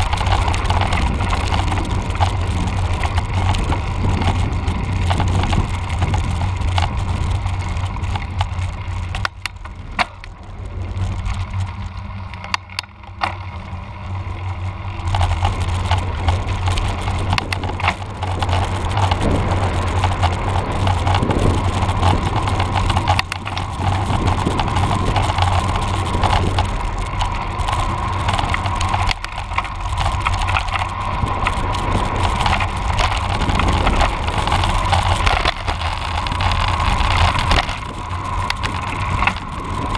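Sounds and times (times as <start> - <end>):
bike rattling and clicking: 0.0 - 39.9
bike tyres rumbling on road: 0.0 - 39.9
low steady drone: 0.0 - 39.9.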